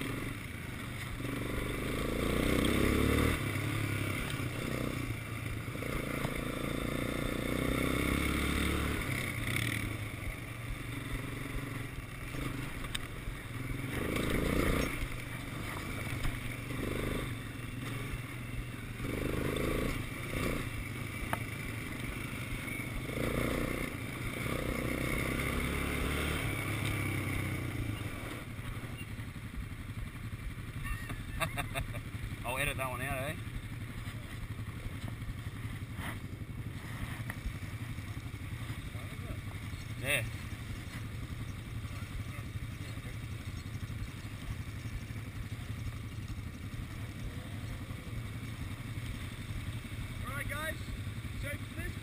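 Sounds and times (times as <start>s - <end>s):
quad bike engine revving: 0.0s - 52.0s.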